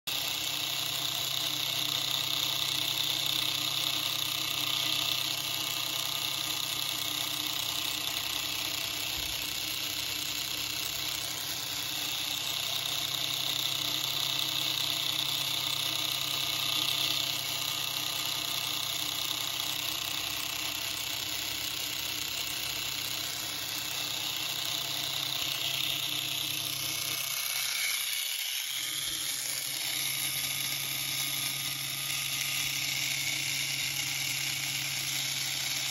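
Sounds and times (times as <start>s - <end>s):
gear motor whining: 0.1s - 35.9s.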